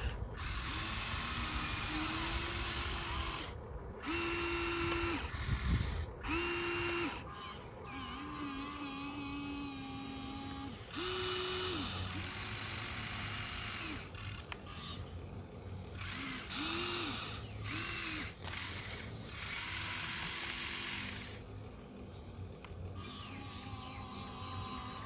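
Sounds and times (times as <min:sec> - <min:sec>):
toy excavator motors whirring: 0:00.0 - 0:21.6, 0:22.4 - 0:25.0.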